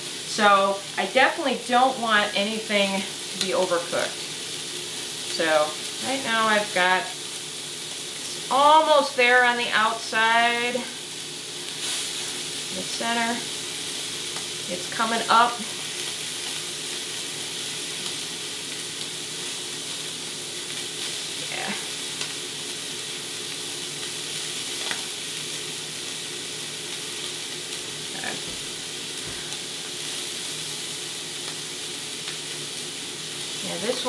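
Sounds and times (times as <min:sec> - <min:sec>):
steaks sizzling in a frying pan: 0:00.0 - 0:34.0.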